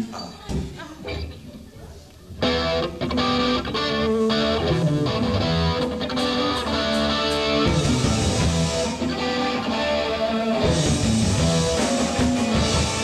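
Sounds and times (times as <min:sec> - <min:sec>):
electric guitar: 0:02.4 - 0:13.0
live rock band playing: 0:02.4 - 0:13.0.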